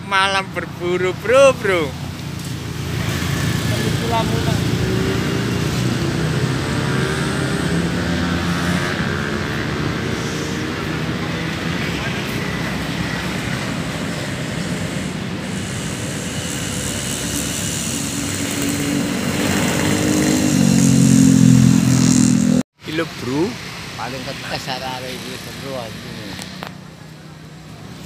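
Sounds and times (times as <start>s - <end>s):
car engines passing: 0.0s - 28.0s
motorcycle engines passing: 0.0s - 28.0s.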